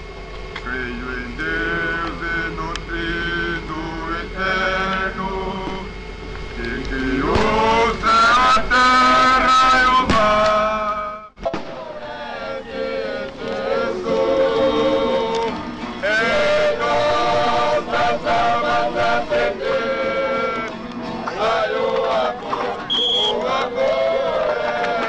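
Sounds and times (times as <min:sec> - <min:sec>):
men singing a chant: 0:00.6 - 0:06.0, 0:06.6 - 0:20.7, 0:21.3 - 0:25.0.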